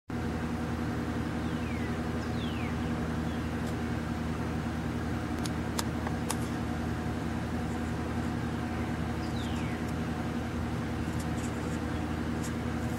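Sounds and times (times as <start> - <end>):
low mechanical hum: 0.1 - 12.9.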